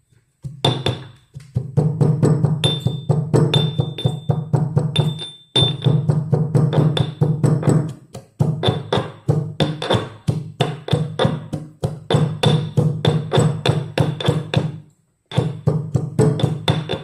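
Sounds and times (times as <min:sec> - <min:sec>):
music with fast percussive beat: 0:00.0 - 0:17.0.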